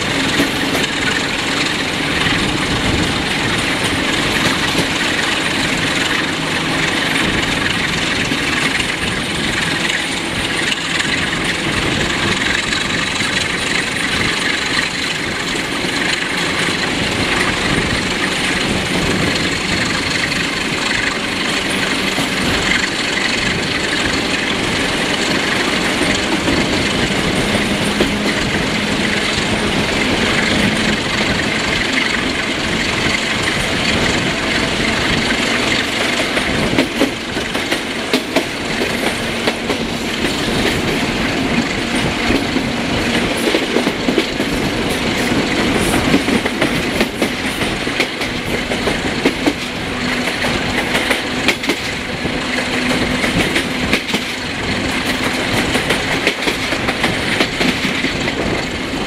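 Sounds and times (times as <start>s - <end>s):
locomotive diesel engine running: 0.0s - 59.0s
train wheels clattering over rail joints: 0.0s - 59.0s.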